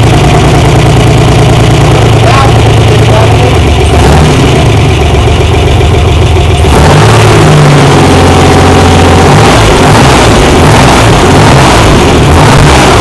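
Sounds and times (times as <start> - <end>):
engine running loud: 0.0 - 13.0.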